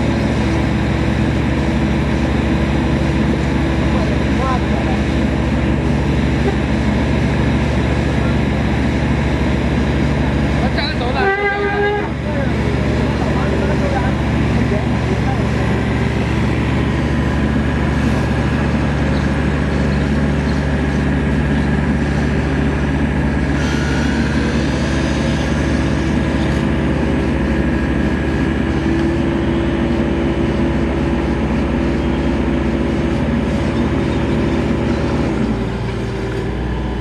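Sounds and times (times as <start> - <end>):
excavator engine running under load: 0.0 - 37.0.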